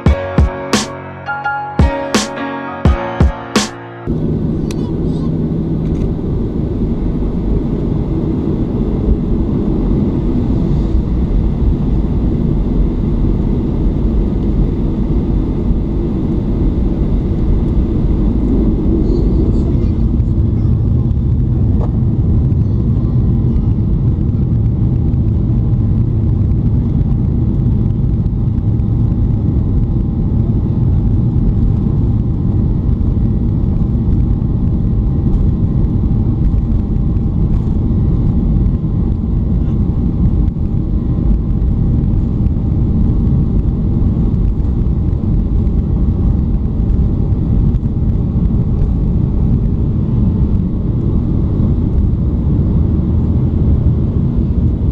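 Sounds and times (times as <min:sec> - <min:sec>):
faint steady whine: 0:04.1 - 0:54.9
jet engine cabin rumble: 0:04.1 - 0:54.9.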